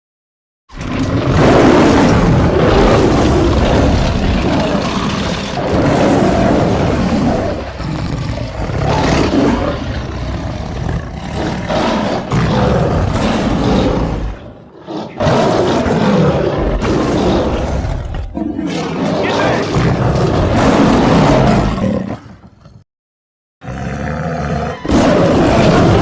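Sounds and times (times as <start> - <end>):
big cat roars: 0.7 - 22.8, 23.6 - 26.0.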